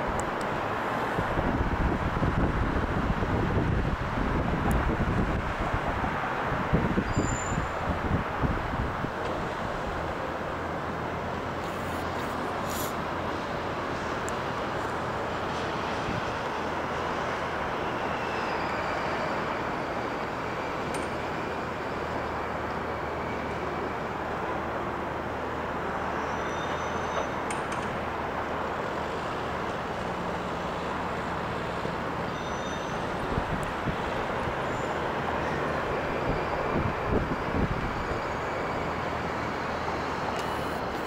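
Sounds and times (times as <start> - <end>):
continuous rushing hum: 0.0 - 41.0.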